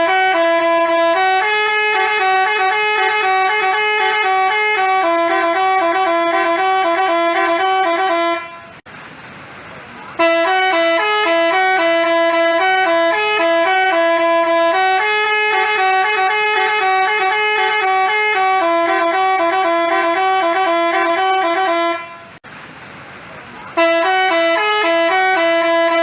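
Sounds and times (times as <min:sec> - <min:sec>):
musical bus horn playing a tune: 0:00.0 - 0:08.8, 0:10.2 - 0:22.4, 0:23.8 - 0:26.0.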